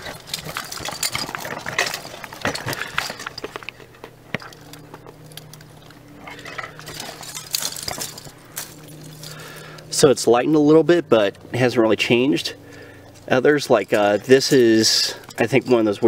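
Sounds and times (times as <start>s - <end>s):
dry brush crackling and rustling: 0.0s - 16.0s.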